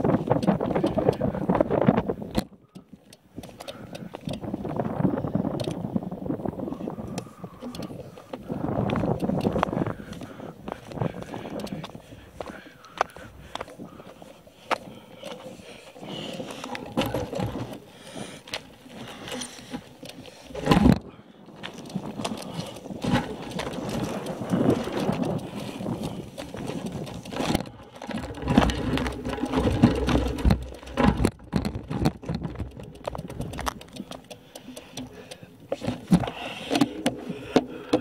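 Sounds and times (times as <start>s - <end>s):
rustling and clicks: 7.1s - 38.0s.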